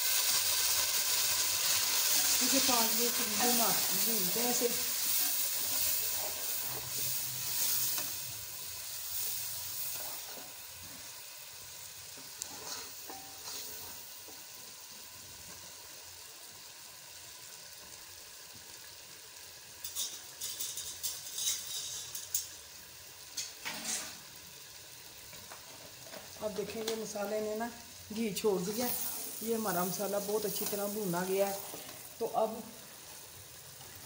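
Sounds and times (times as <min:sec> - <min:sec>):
masala sizzling in a pot: 0:00.0 - 0:34.0.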